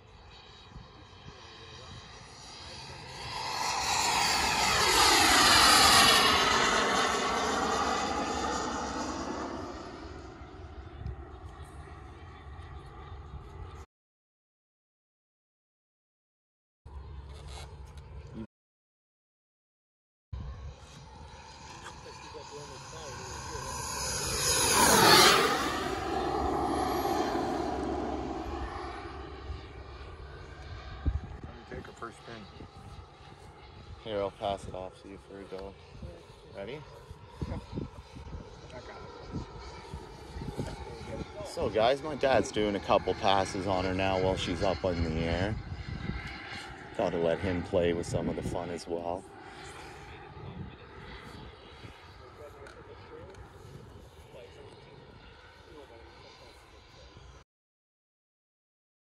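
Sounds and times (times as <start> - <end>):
model jet engine whine flying past: 0.0 - 13.8, 20.4 - 57.4.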